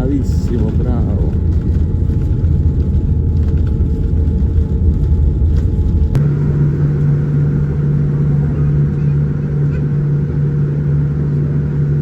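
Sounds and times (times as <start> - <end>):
airplane cabin rumble: 0.0 - 12.0
faint steady whine: 0.0 - 12.0.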